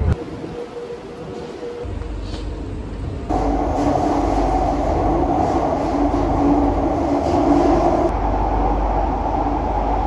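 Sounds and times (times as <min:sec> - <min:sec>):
metro train rumble and hum: 0:00.0 - 0:10.0.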